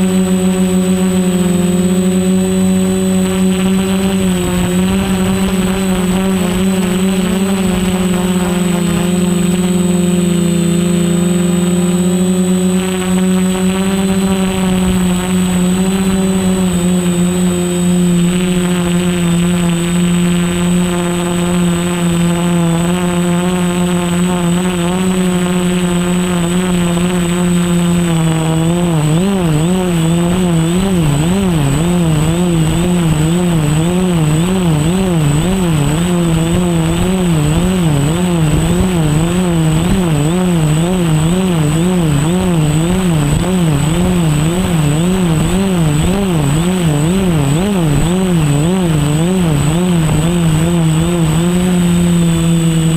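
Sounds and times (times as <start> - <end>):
quadcopter motors droning: 0.0 - 52.9.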